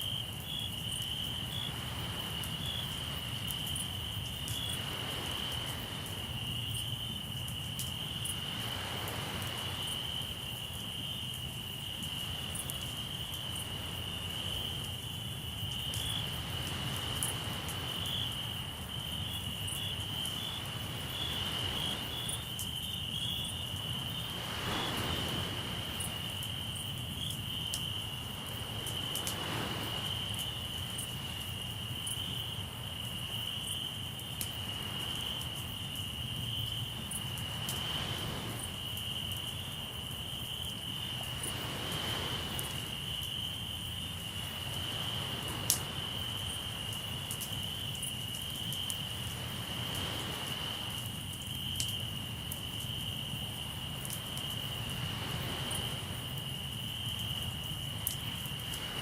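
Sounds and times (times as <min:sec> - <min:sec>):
crickets chirring: 0:00.0 - 0:59.0
sea waves washing in: 0:00.3 - 0:07.3, 0:08.1 - 0:10.8, 0:11.9 - 0:18.9, 0:19.5 - 0:33.4, 0:36.9 - 0:51.3, 0:53.4 - 0:59.0.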